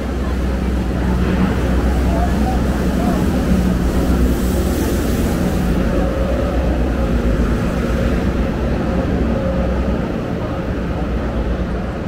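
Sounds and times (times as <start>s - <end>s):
distant voices: 0.0s - 12.0s
loud low street rumble: 0.0s - 12.0s.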